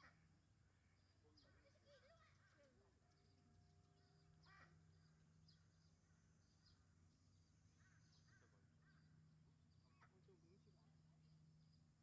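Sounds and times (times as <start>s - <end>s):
faint high bird chirps: 0.0s - 11.8s
low steady hum: 0.0s - 12.0s.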